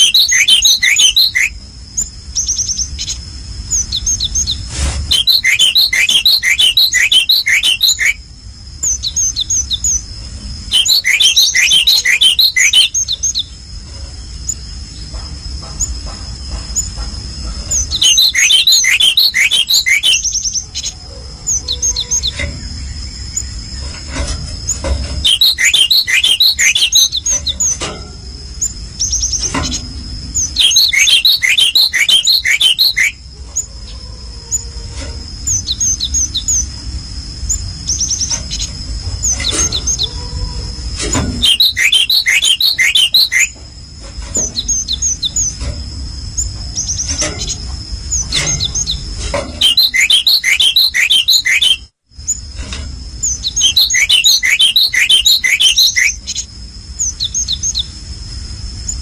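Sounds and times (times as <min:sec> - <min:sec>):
songbird rapid high chirps: 0:00.0 - 0:27.8, 0:28.4 - 0:33.7, 0:35.4 - 0:43.6, 0:44.3 - 0:52.5, 0:53.2 - 0:59.0.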